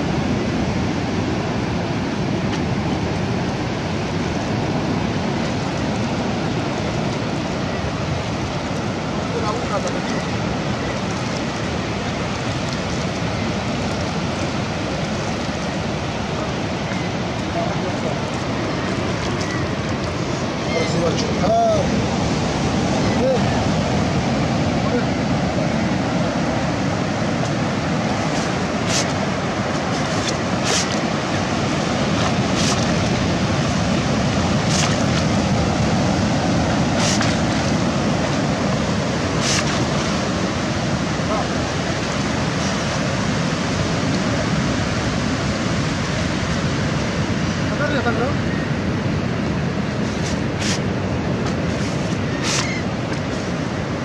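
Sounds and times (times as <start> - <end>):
surf rushing: 0.0 - 54.0
wind: 0.0 - 54.0
water splashing: 2.4 - 47.0.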